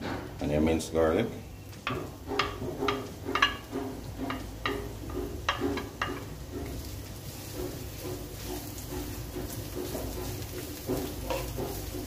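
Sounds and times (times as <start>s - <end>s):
wooden spoon scraping frying pan: 1.8s - 12.0s.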